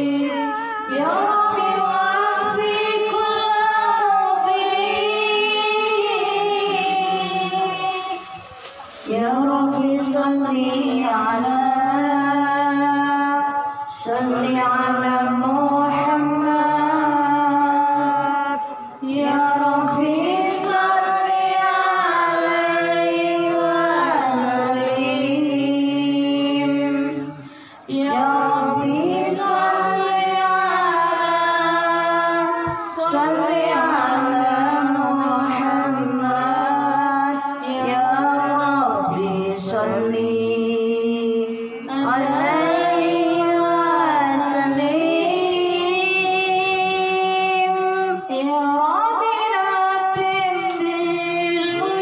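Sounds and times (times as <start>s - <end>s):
woman singing unaccompanied: 0.0s - 52.0s.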